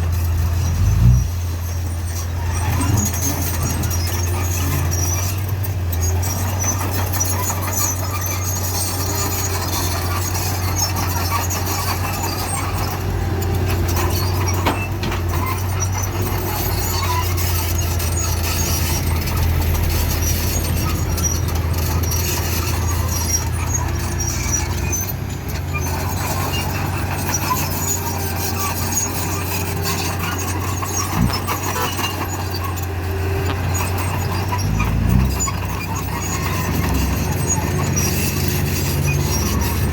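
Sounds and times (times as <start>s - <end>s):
bulldozer engine drone: 0.0s - 39.9s
high-pitched squeals: 0.1s - 39.9s.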